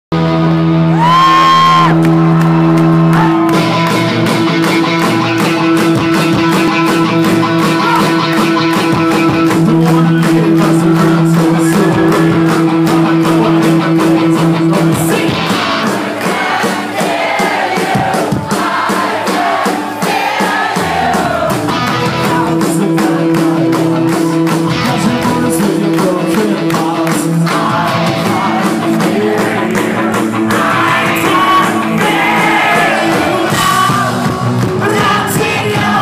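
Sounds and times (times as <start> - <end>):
sustained guitar: 0.1 - 17.0, 17.6 - 36.0
rock band playing live: 0.1 - 36.0
drums steady beat: 1.0 - 36.0.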